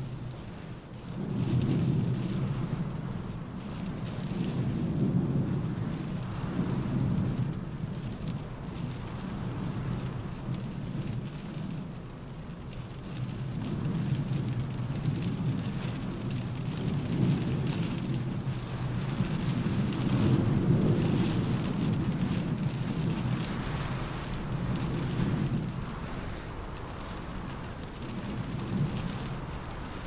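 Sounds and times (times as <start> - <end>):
rain drumming on a car roof: 0.0 - 30.0.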